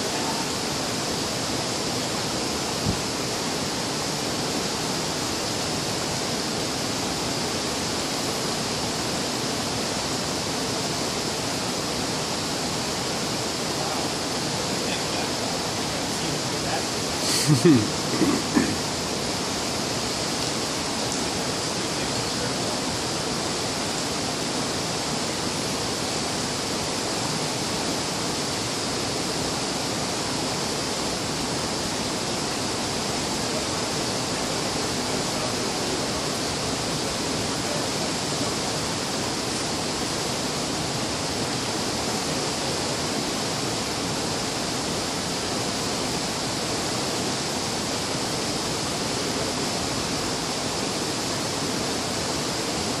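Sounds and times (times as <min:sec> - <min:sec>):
water rushing: 0:00.0 - 0:53.0.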